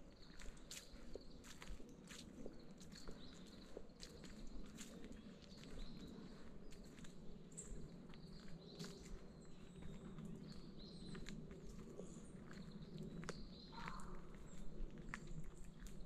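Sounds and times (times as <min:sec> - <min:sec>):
footsteps on path: 0:00.0 - 0:16.0.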